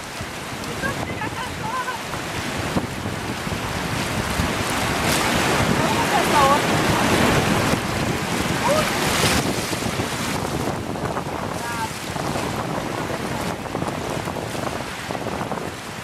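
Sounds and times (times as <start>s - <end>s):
river rapids rushing: 0.0s - 16.0s
wind buffeting microphone: 0.0s - 16.0s.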